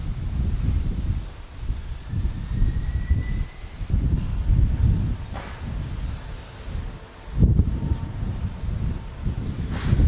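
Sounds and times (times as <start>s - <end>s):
insects chirping: 0.0s - 9.6s
wind buffeting microphone: 0.0s - 10.0s.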